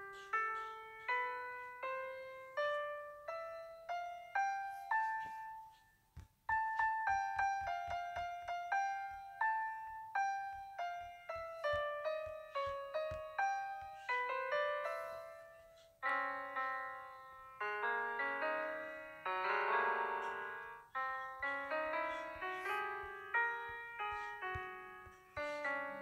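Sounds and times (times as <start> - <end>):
slow piano melody: 0.0 - 26.0.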